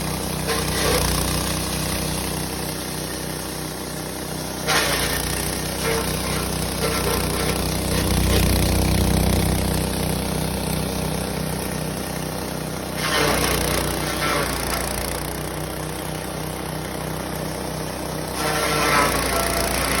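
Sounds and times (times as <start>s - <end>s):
feed processing machine humming: 0.0s - 20.0s.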